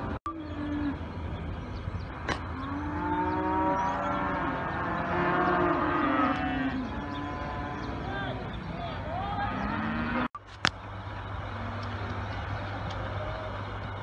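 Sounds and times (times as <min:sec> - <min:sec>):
cows mooing: 0:00.0 - 0:01.2, 0:02.3 - 0:10.3, 0:11.4 - 0:13.6.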